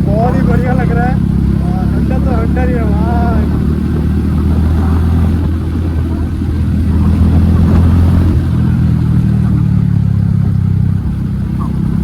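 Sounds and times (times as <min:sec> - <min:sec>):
motorcycle engine deep exhaust note: 0:00.0 - 0:12.0.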